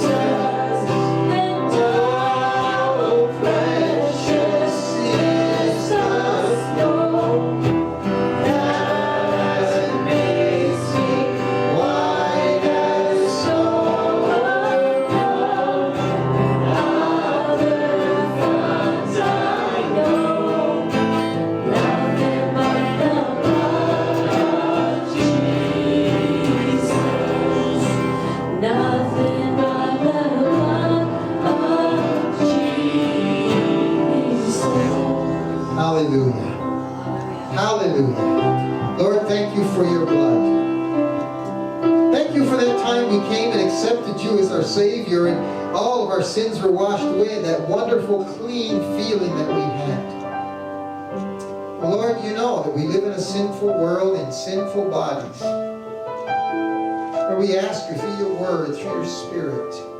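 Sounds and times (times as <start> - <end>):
band instrumental accompaniment: 0.0 - 59.9
congregation singing gospel song: 0.0 - 59.9.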